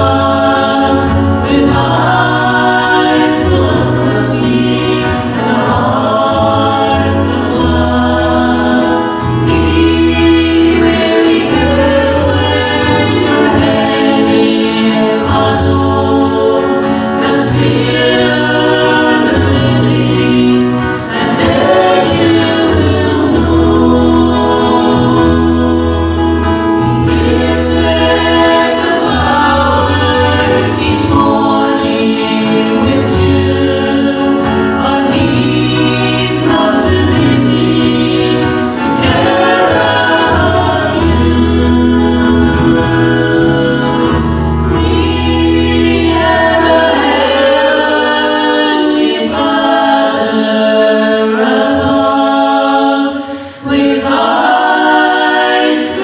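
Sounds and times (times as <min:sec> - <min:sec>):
low instrumental accompaniment: 0:00.0 - 0:49.9
choir singing a hymn: 0:00.0 - 0:56.0.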